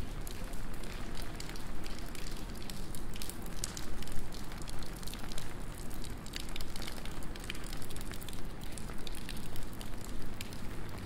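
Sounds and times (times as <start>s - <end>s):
low rain rumble: 0.0s - 11.0s
rain drops pattering: 0.0s - 11.0s.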